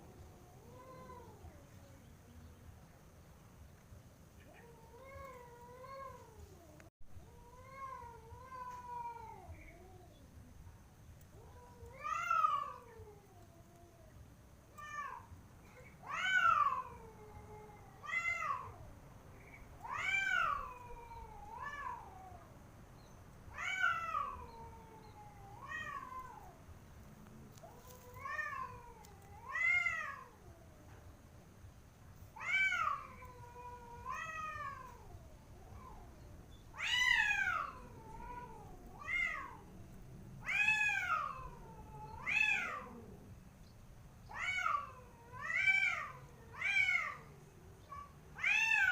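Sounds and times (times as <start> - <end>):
cats yowling: 0.1 - 1.8, 4.4 - 10.2, 11.3 - 18.9, 19.8 - 22.6, 23.5 - 26.7, 27.5 - 31.0, 32.4 - 43.3, 44.3 - 48.9.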